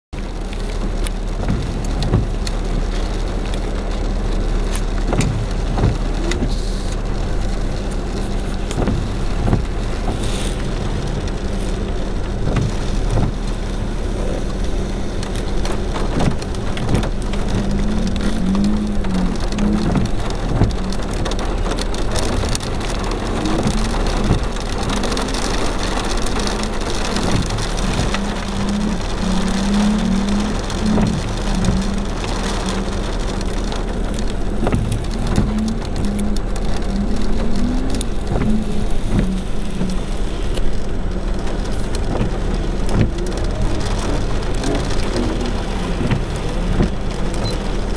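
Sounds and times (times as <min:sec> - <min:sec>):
heavy rain on car roof: 0:00.1 - 0:47.9
car engine revving: 0:00.2 - 0:47.9.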